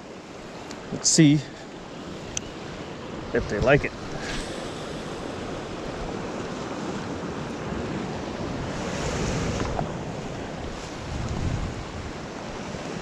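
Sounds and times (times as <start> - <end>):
surf washing around rocks: 0.0 - 13.0
wind on microphone: 2.2 - 13.0.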